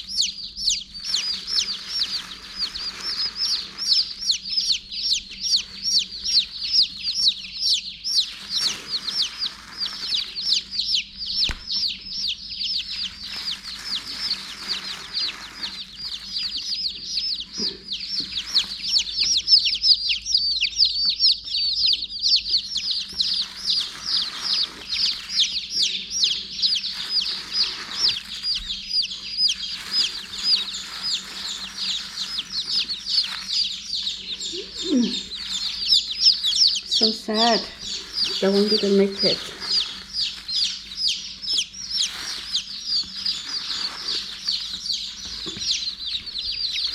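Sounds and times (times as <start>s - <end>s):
rustling in hay: 0.0s - 19.6s, 22.7s - 46.9s
baby chicks peeping: 0.0s - 46.9s.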